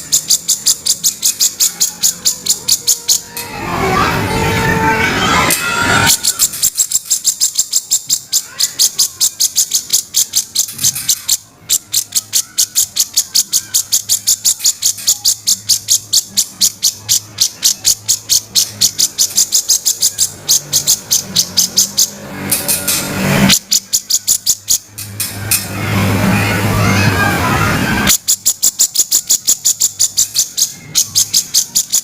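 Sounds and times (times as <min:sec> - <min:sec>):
bird harsh rasping chatter: 0:00.0 - 0:32.0.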